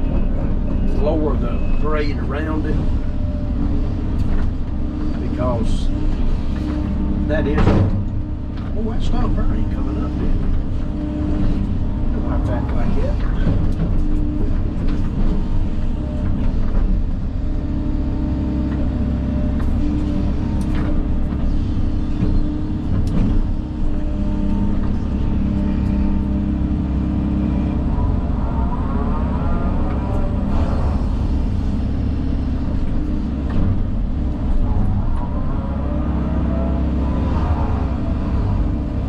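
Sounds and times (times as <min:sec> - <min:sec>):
earthmoving machine engine running: 0:00.0 - 0:39.0.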